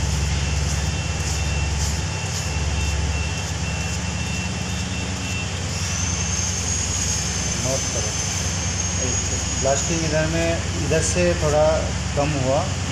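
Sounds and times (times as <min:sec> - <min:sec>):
thin high whine: 0:00.0 - 0:12.8
large engine running: 0:00.0 - 0:12.9.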